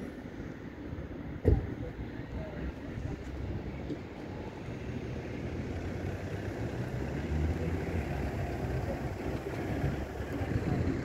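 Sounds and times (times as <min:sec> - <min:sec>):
car traffic rumble: 0:00.0 - 0:11.0.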